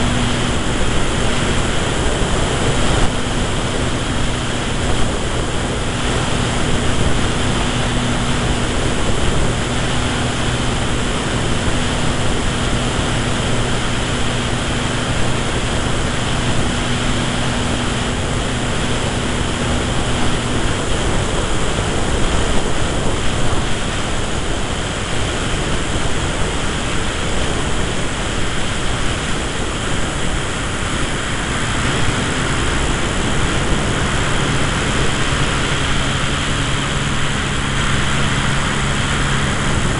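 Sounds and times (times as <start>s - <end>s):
electric motor and propeller hum: 0.0s - 39.9s
wind rushing over camera: 0.0s - 39.9s.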